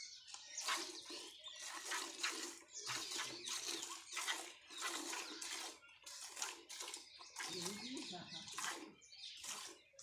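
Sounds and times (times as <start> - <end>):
milk squirting into vessel: 0.2 - 10.0.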